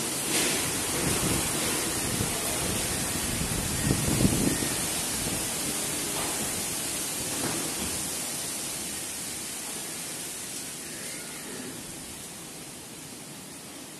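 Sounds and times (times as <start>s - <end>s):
storm wind through palm trees: 0.0s - 13.9s.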